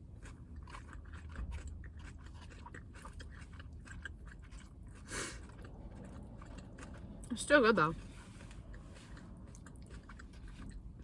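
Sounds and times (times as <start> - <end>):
person chewing crunchy salad: 0.0 - 11.0.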